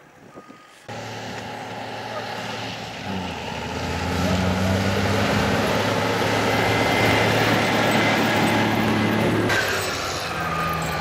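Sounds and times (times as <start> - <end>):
diesel engine running under load: 0.3 - 11.0
grader blade pushing through snow: 0.6 - 11.0.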